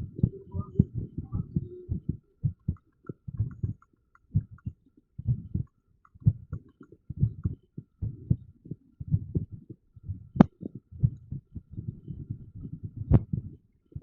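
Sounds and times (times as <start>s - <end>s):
amplified heartbeat thuds: 0.0s - 13.6s.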